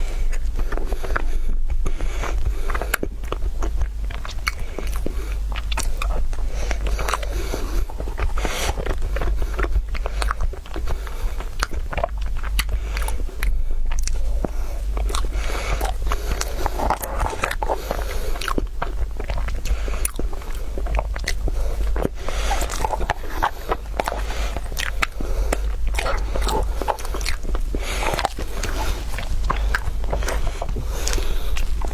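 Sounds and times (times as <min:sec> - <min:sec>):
person chewing food: 0:00.0 - 0:31.9
steady low hum: 0:00.0 - 0:31.9.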